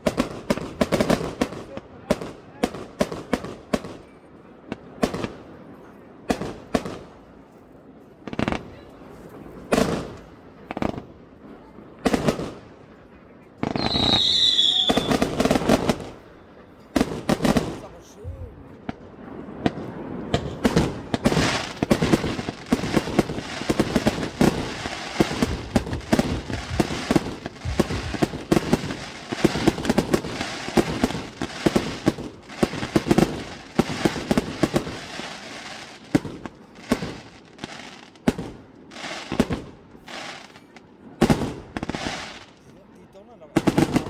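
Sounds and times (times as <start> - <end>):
fireworks bangs and crackling: 0.0 - 7.4, 8.2 - 13.0, 13.6 - 42.8, 43.5 - 44.0.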